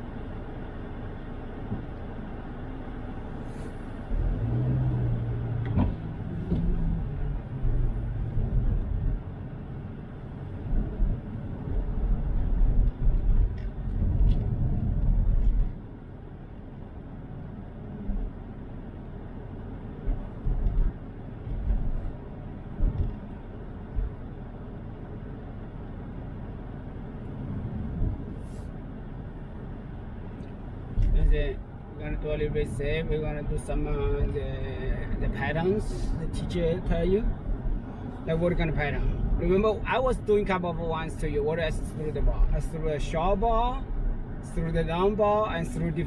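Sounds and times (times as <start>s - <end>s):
tyre and engine rumble: 0.0s - 46.0s.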